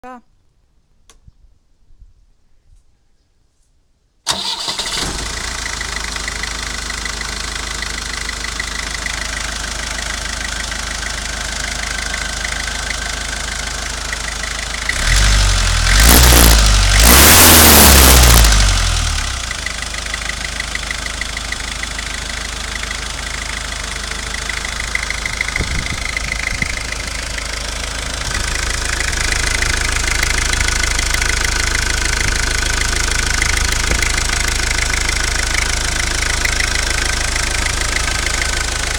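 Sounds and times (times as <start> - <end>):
diesel engine idling and revving: 4.3 - 38.9.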